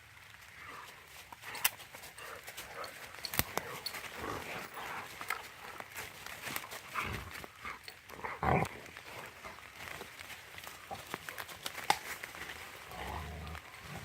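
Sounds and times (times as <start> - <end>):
dogs playing: 0.5 - 14.0.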